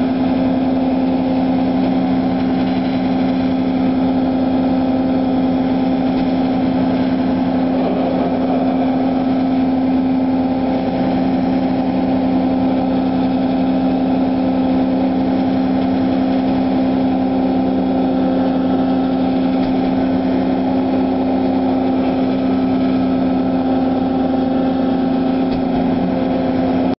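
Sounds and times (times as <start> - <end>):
boat engine humming: 0.0 - 27.0.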